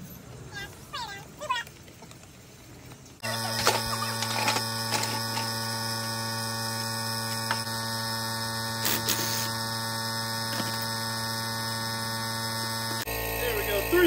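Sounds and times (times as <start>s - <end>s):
air compressor humming: 2.5s - 14.0s.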